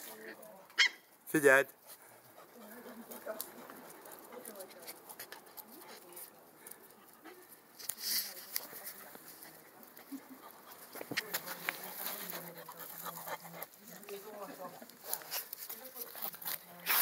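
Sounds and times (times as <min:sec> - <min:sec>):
hissy rustle: 0:01.8 - 0:17.0
puppies scuffling: 0:01.8 - 0:17.0.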